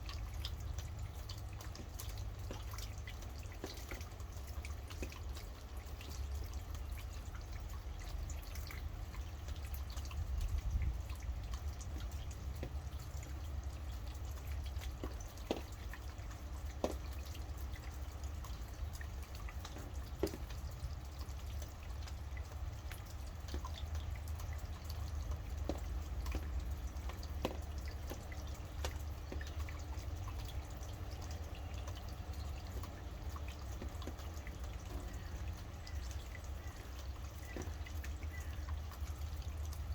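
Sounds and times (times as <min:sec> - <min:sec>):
rain dripping: 0:00.0 - 0:39.9.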